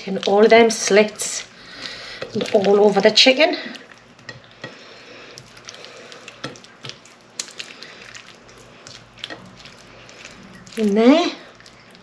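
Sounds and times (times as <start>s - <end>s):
hands squelching marinade into chicken: 0.0s - 12.0s.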